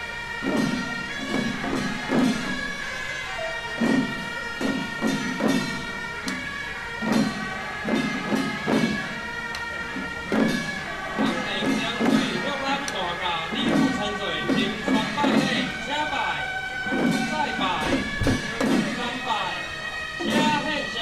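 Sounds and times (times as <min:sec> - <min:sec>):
drum beats: 0:00.0 - 0:21.0
shrill reed horns: 0:00.0 - 0:21.0.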